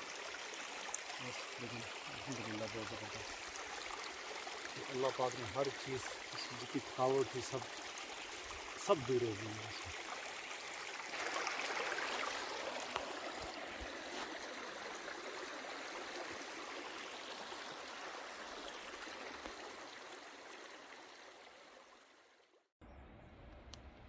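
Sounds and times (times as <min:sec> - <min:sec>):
stream water rushing: 0:00.0 - 0:22.2.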